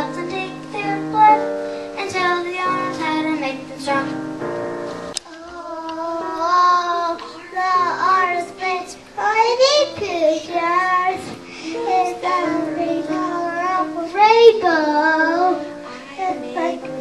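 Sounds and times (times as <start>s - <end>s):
young children singing: 0.0s - 4.6s, 5.2s - 17.0s
musical backing: 0.0s - 17.0s.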